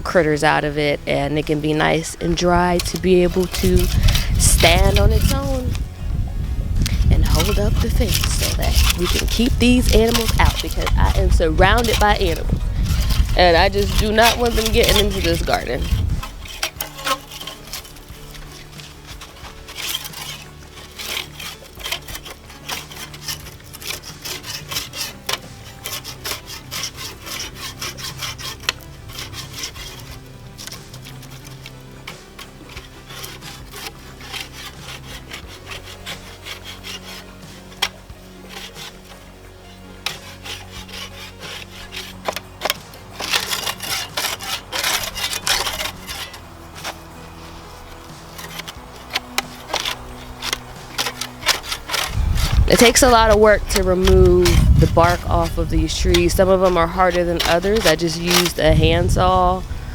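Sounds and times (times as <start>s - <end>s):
handsaw scraping bark off log: 0.0s - 59.9s.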